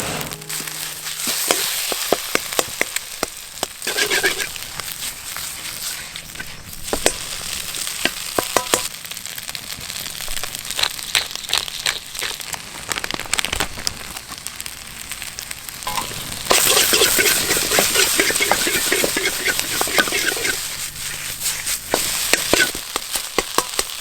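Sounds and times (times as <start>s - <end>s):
loud dense sizzle: 0.0s - 24.0s
oil spitting and crackling: 0.4s - 24.0s.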